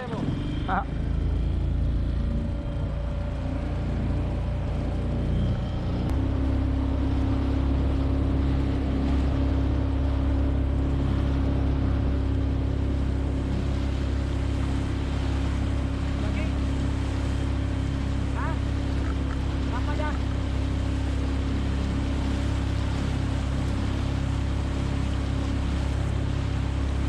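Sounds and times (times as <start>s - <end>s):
motorboat engine running: 0.0s - 27.0s.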